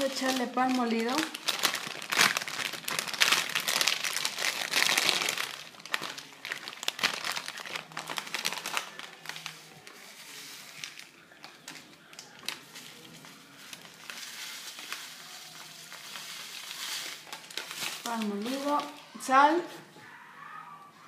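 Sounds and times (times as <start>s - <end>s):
plastic bag crinkling: 0.0s - 19.8s.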